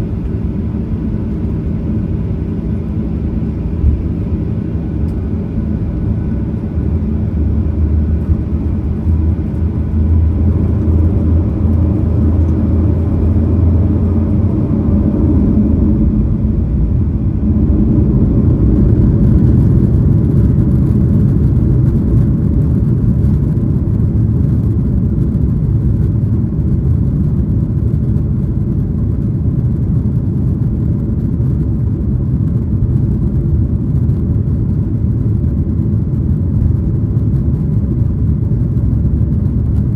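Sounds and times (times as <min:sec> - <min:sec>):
jet engines in airplane cabin: 0:00.0 - 0:39.9.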